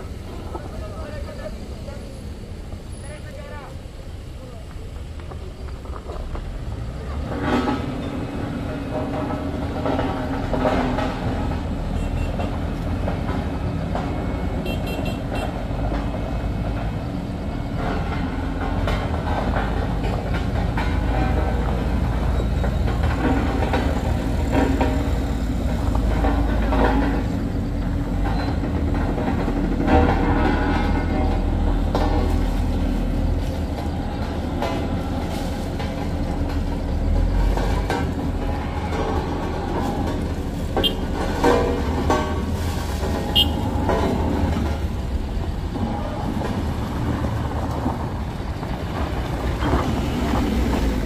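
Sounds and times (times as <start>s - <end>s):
heavy diesel engines rumbling: 0.0s - 51.0s.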